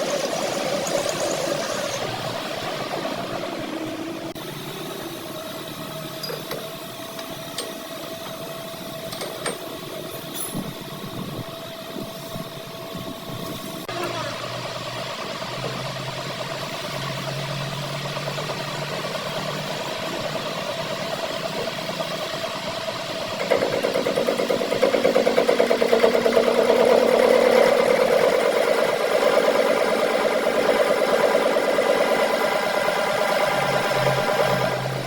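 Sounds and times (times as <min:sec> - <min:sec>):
lathe cutting flutter: 0:00.0 - 0:10.0, 0:13.2 - 0:35.0
metal lathe running: 0:00.0 - 0:35.0.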